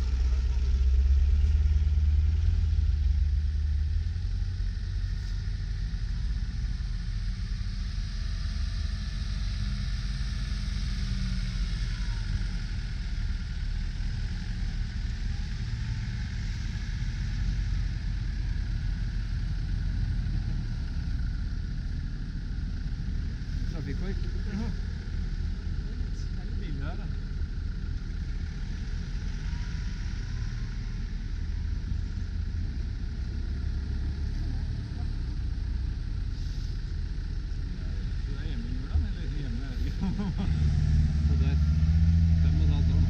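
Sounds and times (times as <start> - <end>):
engine rumbling in snow: 0.0 - 43.0
off-road vehicle engine running: 0.0 - 43.0.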